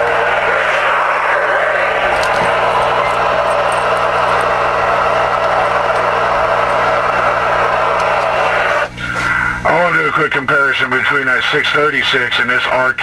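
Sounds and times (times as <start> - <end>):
low electrical hum: 0.0 - 13.0
radio static hiss: 0.0 - 13.0.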